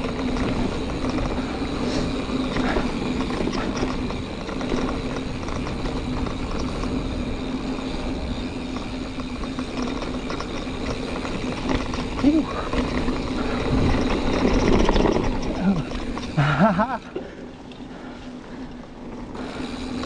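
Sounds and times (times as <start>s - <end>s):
bike clicks and rattles: 0.0s - 20.0s
bike tyres rolling on dirt: 0.0s - 20.0s.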